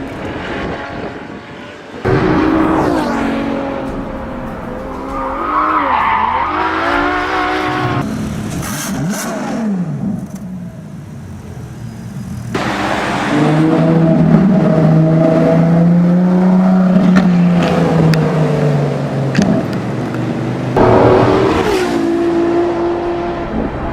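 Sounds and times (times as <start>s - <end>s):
engine revving and accelerating: 0.0s - 10.4s, 12.5s - 19.7s, 20.7s - 23.9s.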